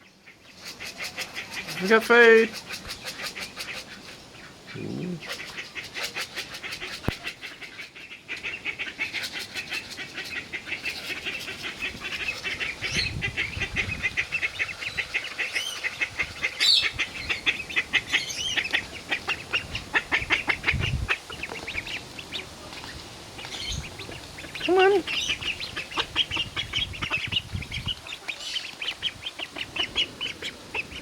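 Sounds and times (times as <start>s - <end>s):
ducklings peeping: 0.1s - 31.0s.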